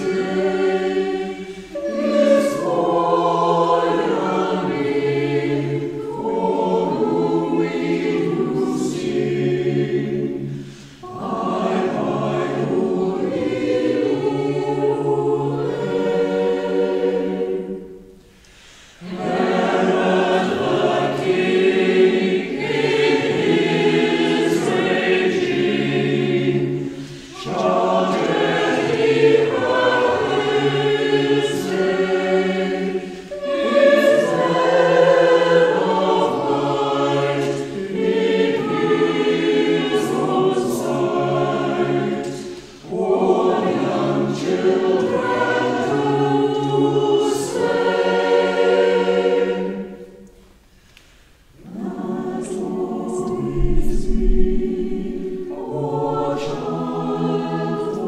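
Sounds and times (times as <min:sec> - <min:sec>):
church choir singing a carol: 0:00.0 - 0:58.0.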